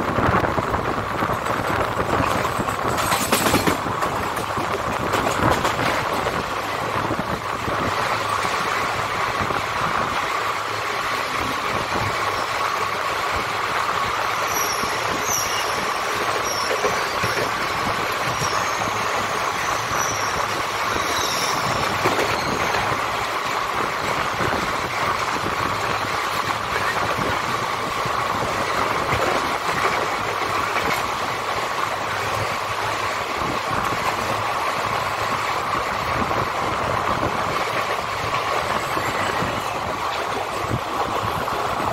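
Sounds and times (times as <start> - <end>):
train wheels rumbling and rattling: 0.0 - 41.9.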